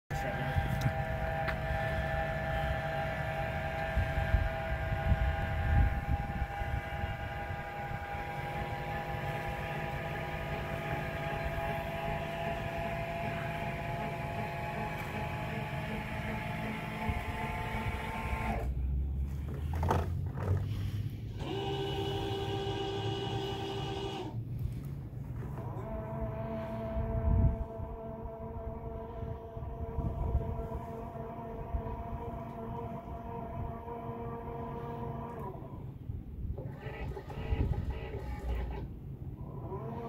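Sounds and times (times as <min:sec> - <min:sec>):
electric motor whine: 0:00.1 - 0:18.8, 0:19.4 - 0:40.0
low rumble: 0:00.1 - 0:22.7, 0:24.1 - 0:36.6.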